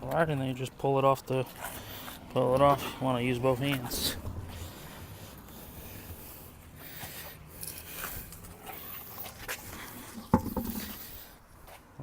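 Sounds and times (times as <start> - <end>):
tire scraping on hub studs: 1.5 - 11.4.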